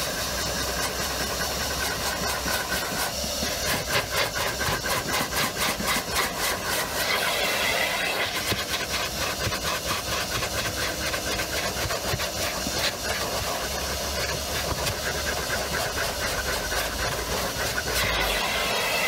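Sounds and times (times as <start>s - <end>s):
vacuum cleaner suction hissing: 0.0s - 19.0s
vacuum nozzle scraping carpet: 0.0s - 19.0s.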